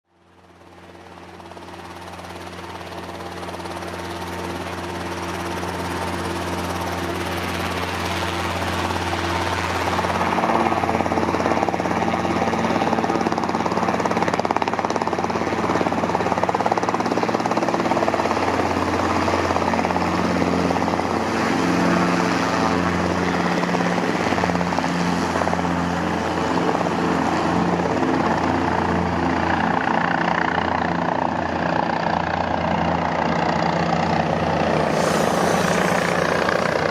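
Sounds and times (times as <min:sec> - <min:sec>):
helicopter rotor and turbine: 0:00.1 - 0:36.9.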